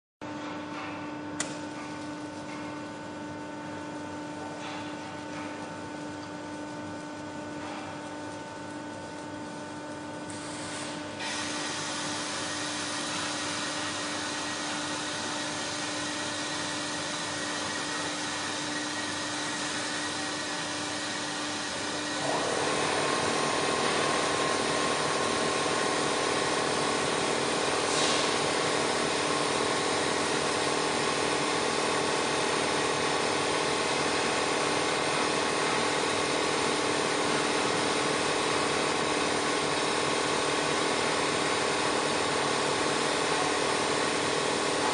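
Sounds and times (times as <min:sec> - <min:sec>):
welding machine humming: 0:01.3 - 0:44.9.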